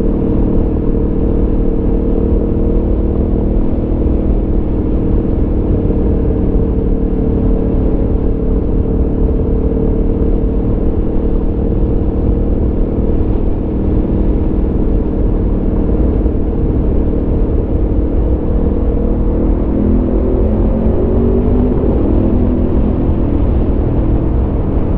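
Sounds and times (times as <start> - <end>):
motorcycle engine cruising: 0.0 - 24.9.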